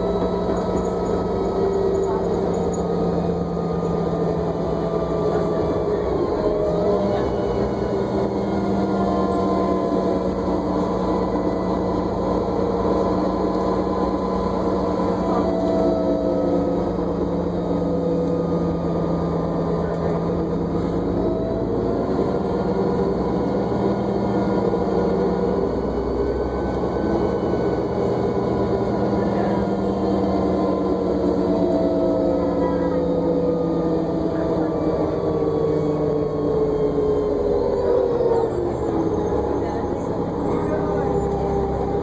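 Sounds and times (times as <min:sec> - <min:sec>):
bus driving interior hum and whine: 0:00.0 - 0:42.0.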